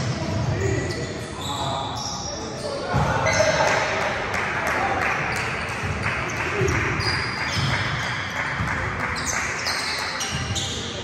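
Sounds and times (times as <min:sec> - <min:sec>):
sneakers squeaking: 0:00.0 - 0:03.9, 0:05.3 - 0:11.0
murmur of voices in a hall: 0:00.0 - 0:11.0.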